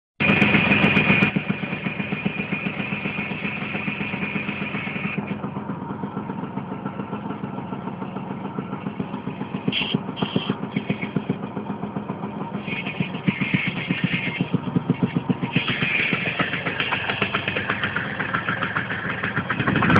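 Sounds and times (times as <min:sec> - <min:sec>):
two-stroke engine idling: 0:00.2 - 0:19.9.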